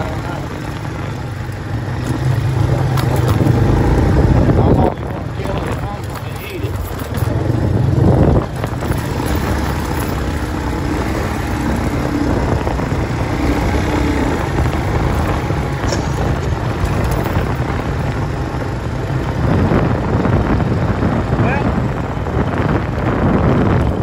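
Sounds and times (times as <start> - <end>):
tyres rumbling on gravel: 0.0 - 24.0
vehicle engine drone: 0.0 - 24.0.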